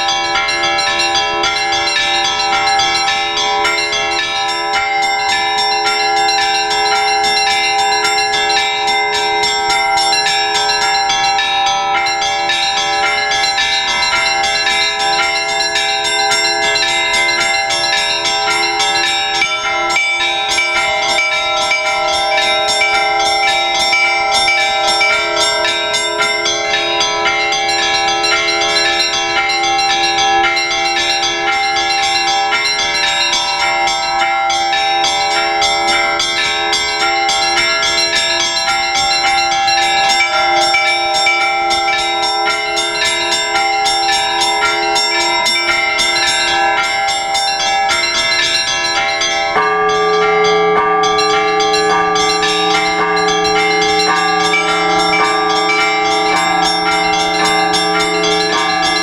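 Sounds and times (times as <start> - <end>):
church bells pealing: 0.0 - 59.0.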